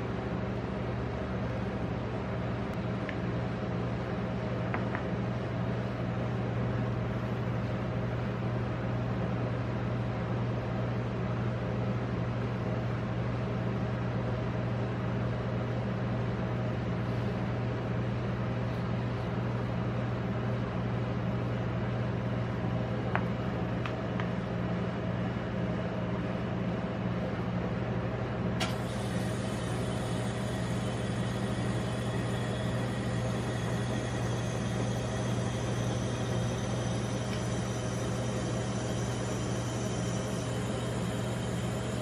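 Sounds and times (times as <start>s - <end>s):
refrigeration compressor hum: 0.0s - 42.0s.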